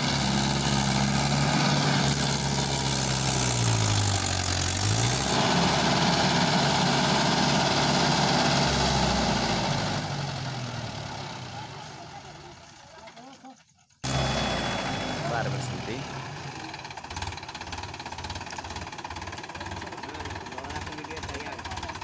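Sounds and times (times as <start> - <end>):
tractor diesel engine working hard: 0.0 - 13.0, 14.0 - 22.0.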